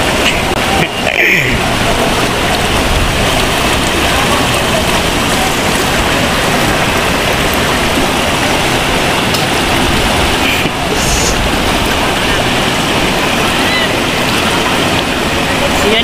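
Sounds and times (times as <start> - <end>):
river rushing past rocks: 0.0 - 16.0.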